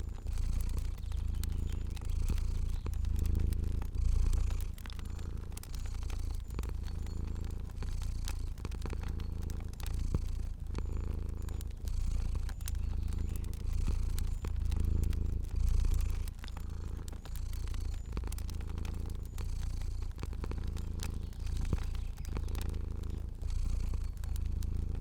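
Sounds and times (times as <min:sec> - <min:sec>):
cat purring: 0:00.0 - 0:25.0
fire crackling: 0:00.0 - 0:25.0.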